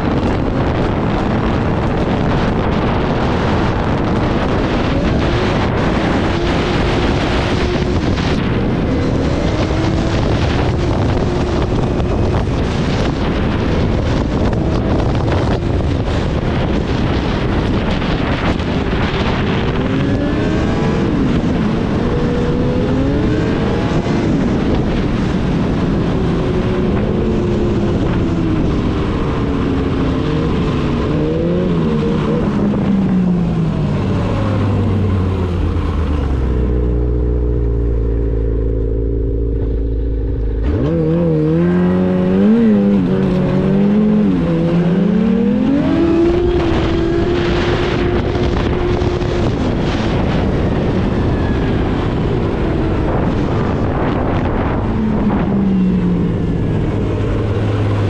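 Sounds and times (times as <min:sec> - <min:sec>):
snowmobile engine revving: 0:00.0 - 0:58.0
wind rushing over microphone: 0:00.0 - 0:58.0.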